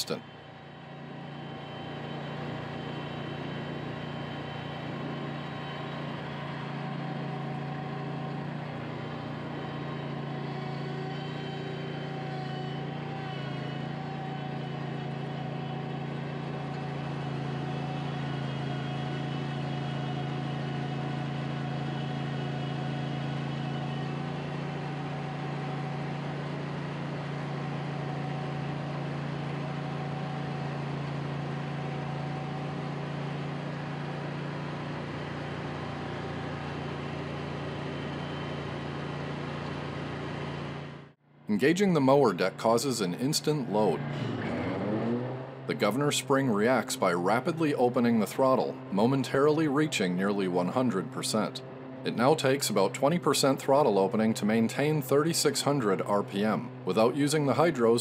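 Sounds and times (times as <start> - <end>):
mower engine running steadily: 0.0 - 58.0.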